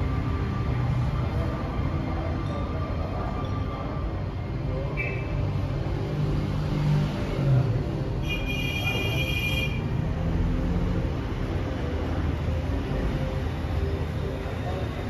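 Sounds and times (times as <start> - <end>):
low cafe rumble: 0.0 - 15.0.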